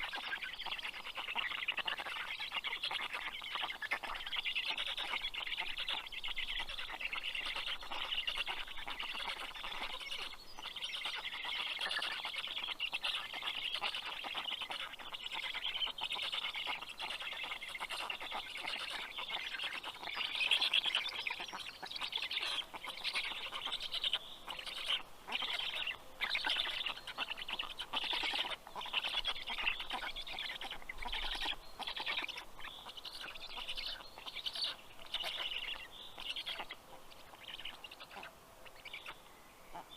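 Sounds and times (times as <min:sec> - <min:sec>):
stork chicks calling: 0:00.0 - 0:39.9.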